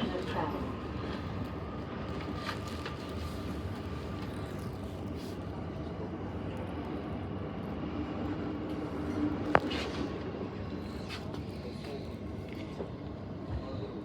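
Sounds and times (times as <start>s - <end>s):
train carriage running rumble: 0.0s - 14.0s.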